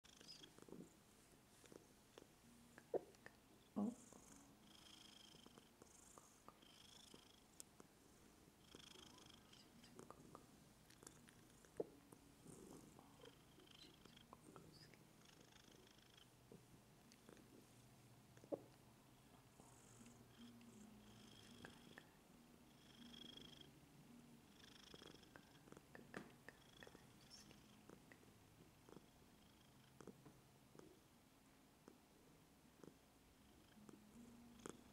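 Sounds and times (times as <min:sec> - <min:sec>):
cat purring softly: 0:00.0 - 0:34.9
faint breathy hiss: 0:00.0 - 0:34.9.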